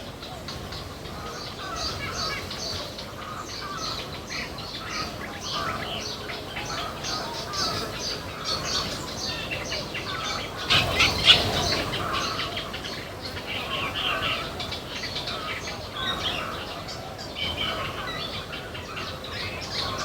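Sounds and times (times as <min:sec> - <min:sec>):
small birds chirping and squawking: 0:00.0 - 0:20.0.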